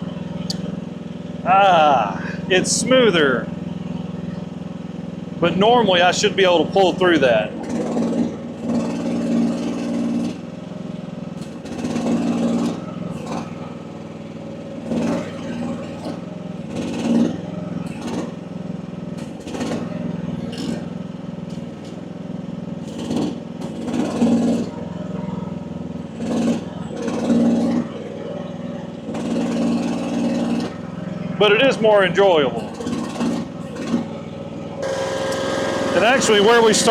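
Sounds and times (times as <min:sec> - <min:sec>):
excavator engine and hydraulics: 0:00.0 - 0:36.9.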